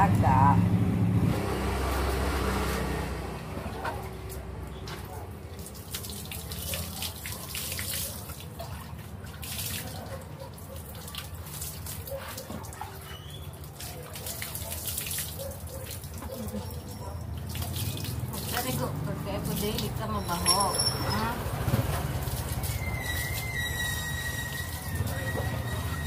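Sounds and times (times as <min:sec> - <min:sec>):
water splashing on a dog: 0:01.5 - 0:26.0.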